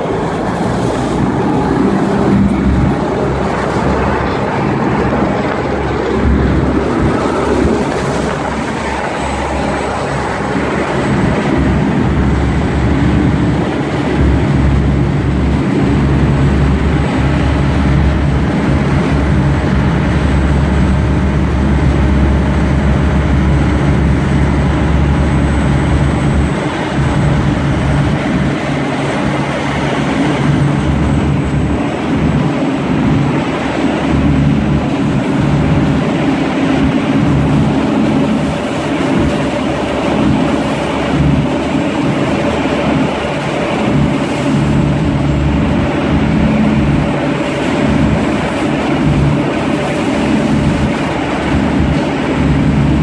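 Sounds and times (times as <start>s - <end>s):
diesel engines droning: 0.0s - 53.0s
water rushing along hull: 0.0s - 53.0s.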